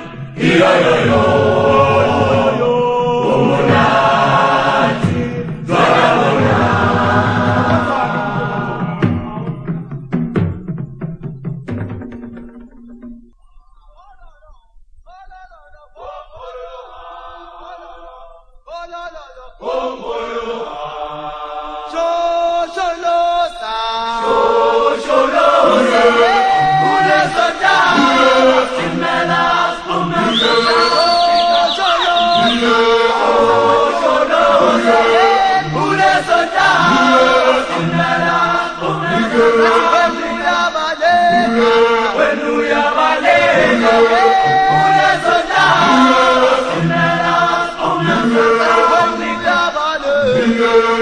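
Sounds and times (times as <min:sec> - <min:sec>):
voices chanting in harmony: 0:00.0 - 0:10.2, 0:15.4 - 0:51.0.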